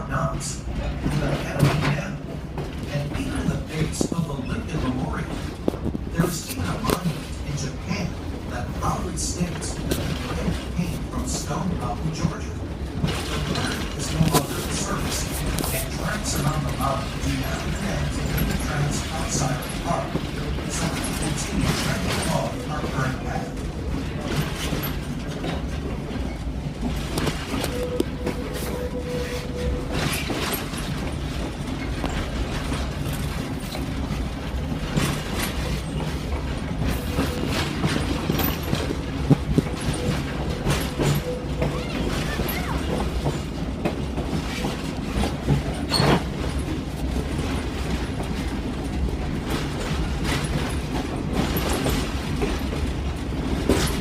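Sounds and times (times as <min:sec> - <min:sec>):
train rumbling on track: 0:00.0 - 0:54.0.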